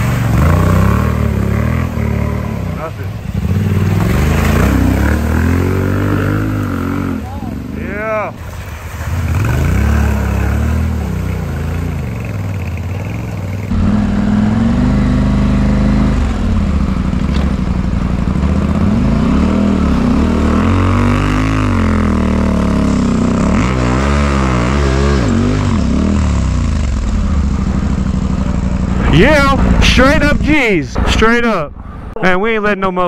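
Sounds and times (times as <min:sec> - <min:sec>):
motorcycle engine revving: 0:00.0 - 0:31.1.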